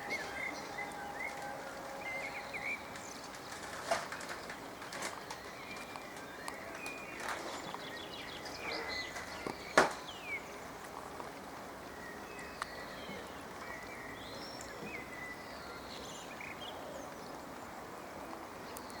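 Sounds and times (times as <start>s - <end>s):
bird calls and chirps: 0.0s - 10.7s, 11.8s - 19.0s.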